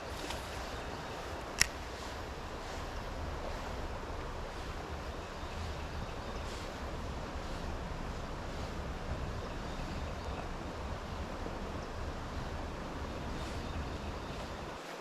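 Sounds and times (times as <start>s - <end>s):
river water flowing: 0.0s - 15.0s
wind rumble on microphone: 0.0s - 15.0s.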